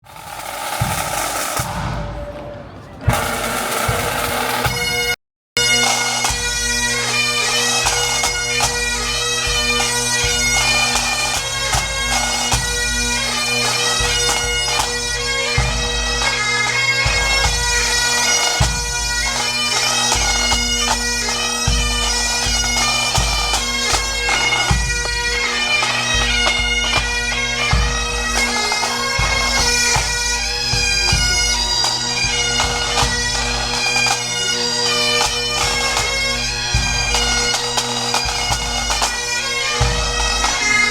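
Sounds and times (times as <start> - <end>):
low beats: 0.1 - 40.9.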